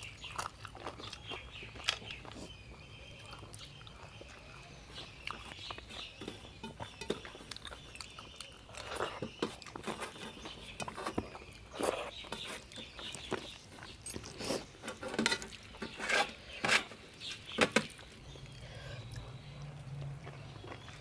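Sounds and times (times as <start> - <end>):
chewing and mouth smacks: 0.0 - 14.8, 17.9 - 21.0.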